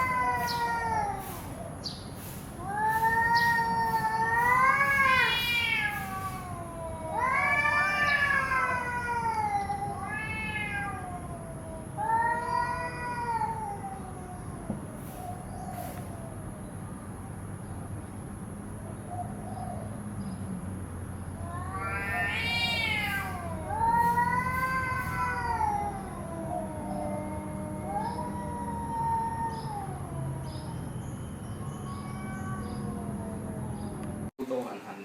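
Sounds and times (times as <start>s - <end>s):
cats yowling: 0.0s - 1.8s, 2.4s - 17.4s, 21.3s - 34.3s.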